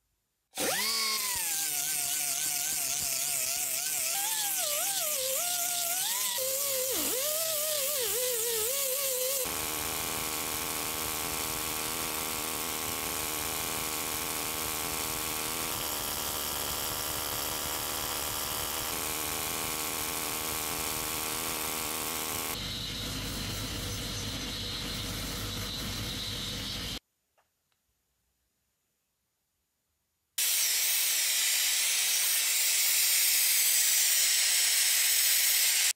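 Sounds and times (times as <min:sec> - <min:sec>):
electric power tool whirring: 0:00.6 - 0:27.0, 0:30.4 - 0:35.9.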